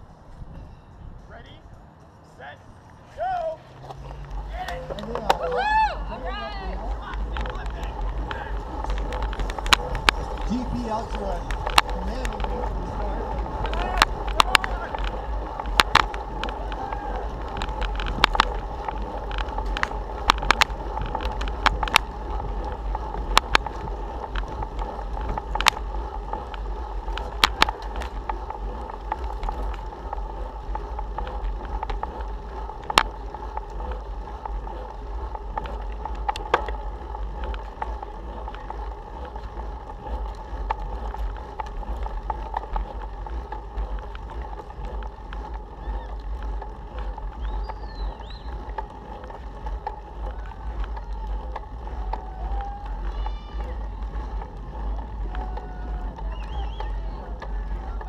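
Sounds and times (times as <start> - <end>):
bicycle riding rumble: 0.0 - 58.0
sharp clicks and knocks: 6.9 - 58.0.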